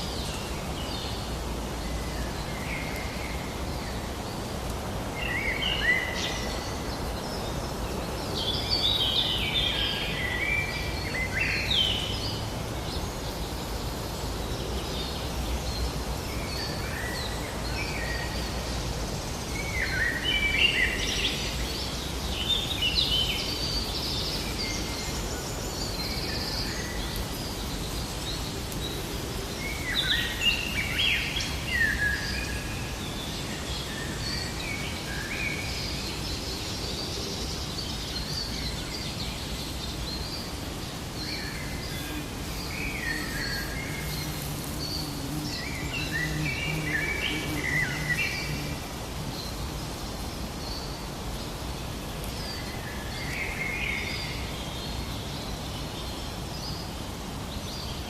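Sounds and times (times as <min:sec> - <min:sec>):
songbirds chirping and warbling: 0:00.0 - 0:58.0
steady outdoor background noise: 0:00.0 - 0:58.0.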